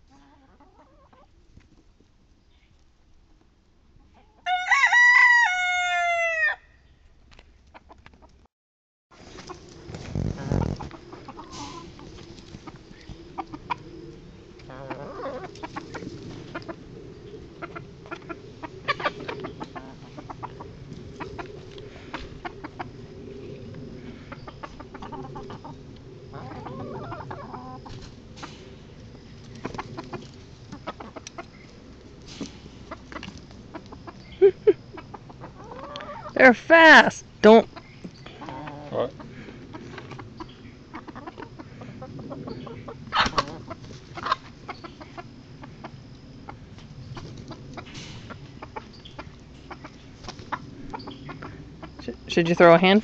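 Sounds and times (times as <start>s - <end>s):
hens clucking: 0.0s - 1.4s, 7.7s - 8.4s, 9.3s - 53.0s.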